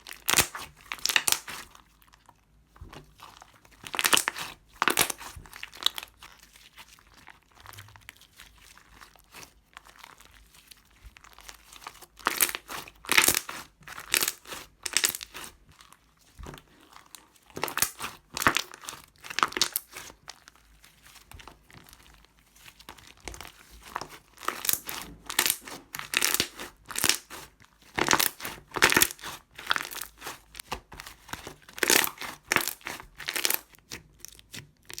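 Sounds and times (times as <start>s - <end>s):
foam slime crackling: 0.0s - 2.0s, 2.8s - 35.0s
slime squishing: 0.0s - 35.0s.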